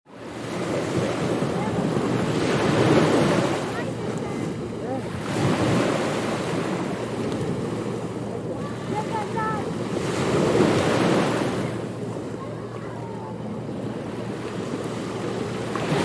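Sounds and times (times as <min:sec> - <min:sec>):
ocean waves washing onto beach: 0:00.1 - 0:16.0
wind: 0:00.1 - 0:16.0.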